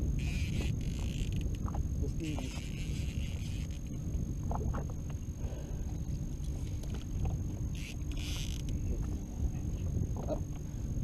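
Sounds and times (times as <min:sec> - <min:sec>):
boat motor running: 0:00.0 - 0:11.0
faint steady hum: 0:00.0 - 0:11.0
wind noise on microphone: 0:00.0 - 0:11.0.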